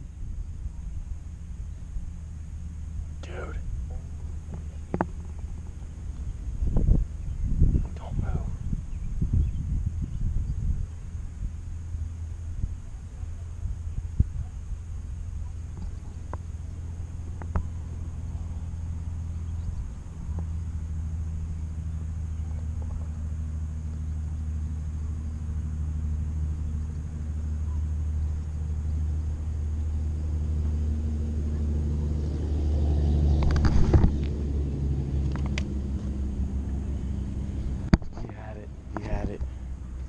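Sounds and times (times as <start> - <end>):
low mechanical hum and rumble: 0.0 - 40.0.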